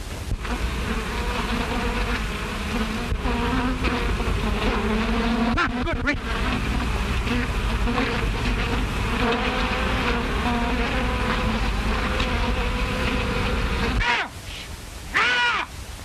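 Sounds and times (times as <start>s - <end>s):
swarm of bees buzzing: 0.0s - 14.3s.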